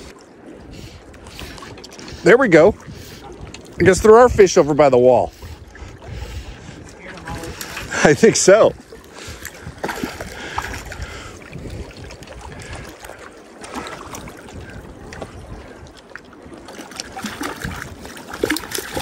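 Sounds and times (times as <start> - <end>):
water lapping at shore: 0.0 - 19.0
wind buffeting microphone: 0.0 - 19.0.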